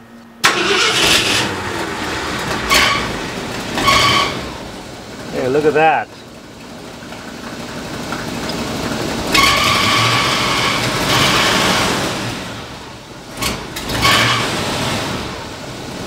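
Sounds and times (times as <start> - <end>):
truck engine revving: 0.4 - 6.0, 7.6 - 16.0.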